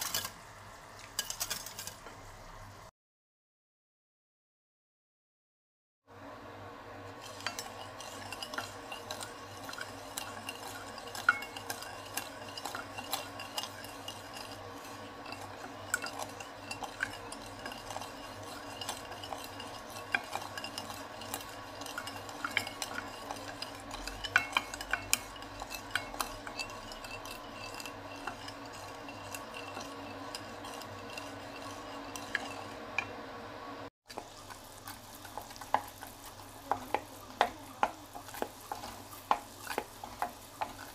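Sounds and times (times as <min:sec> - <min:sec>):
wooden spatula stirring in glass pan: 0:00.0 - 0:02.3, 0:06.9 - 0:40.9.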